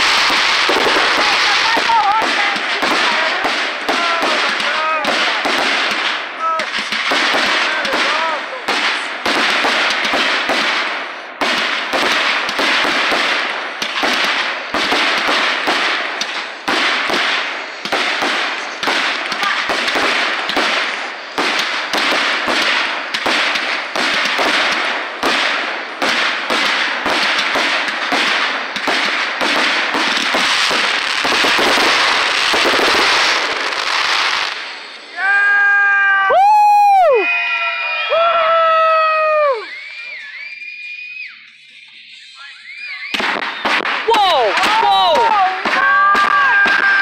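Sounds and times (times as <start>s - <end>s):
fireworks banging and crackling: 0.0s - 47.0s.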